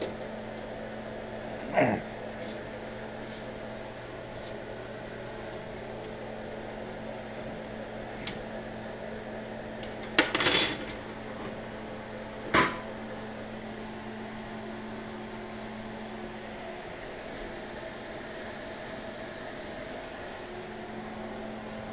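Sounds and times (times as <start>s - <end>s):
steady electrical hum: 0.0s - 21.9s.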